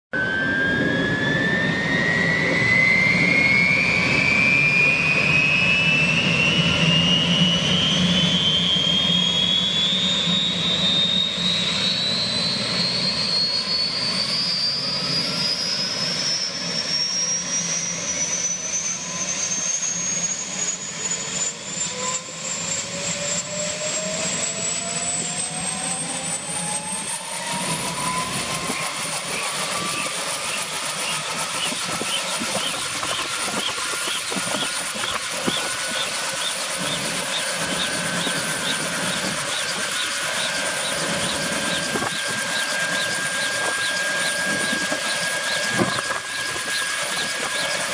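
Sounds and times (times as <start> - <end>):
helicopter engine whine rising: 0.1 - 47.9.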